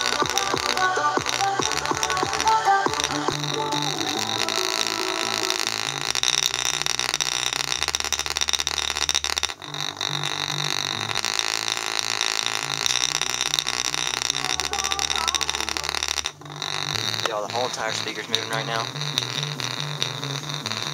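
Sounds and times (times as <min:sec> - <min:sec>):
bass-heavy electronic music: 0:00.0 - 0:08.7, 0:09.5 - 0:20.9.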